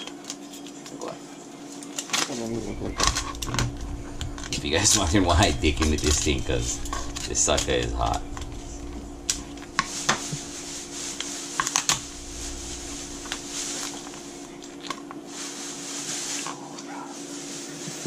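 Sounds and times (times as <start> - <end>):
steady low hum: 1.0 - 17.6.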